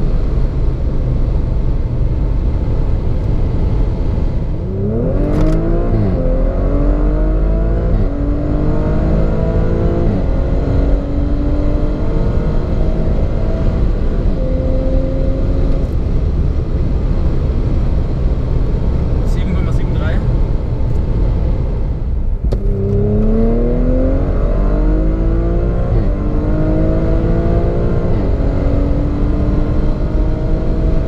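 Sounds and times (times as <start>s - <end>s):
car engine accelerating hard: 0.0s - 31.0s
road and wind noise: 0.0s - 31.0s.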